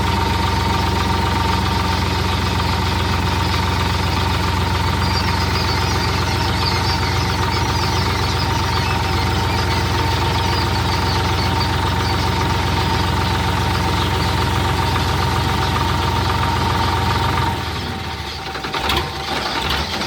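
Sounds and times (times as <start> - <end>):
constant whine: 0.0 - 20.0
engine knocks: 0.0 - 20.0
tractor diesel engine running: 0.0 - 20.0.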